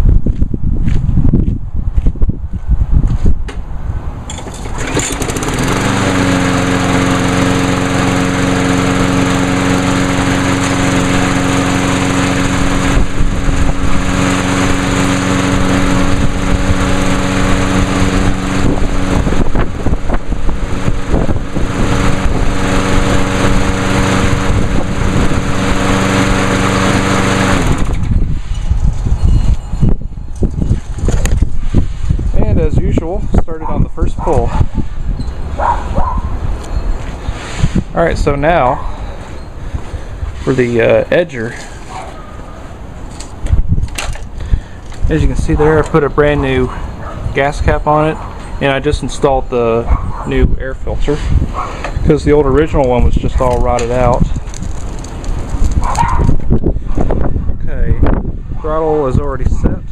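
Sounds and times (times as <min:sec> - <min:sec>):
lawn mower engine running: 0:04.2 - 0:34.0, 0:34.8 - 0:57.2.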